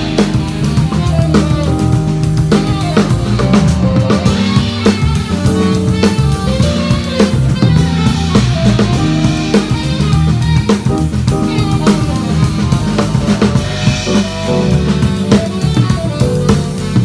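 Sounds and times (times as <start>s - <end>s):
bass line: 0.0s - 17.0s
drum kit: 0.0s - 17.0s
melodic guitar or keys notes: 0.0s - 17.0s.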